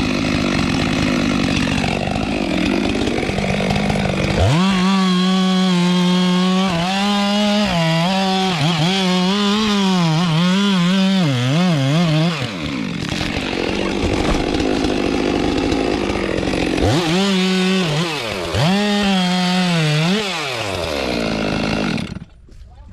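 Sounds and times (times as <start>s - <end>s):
chainsaw cutting wood: 0.0s - 22.4s.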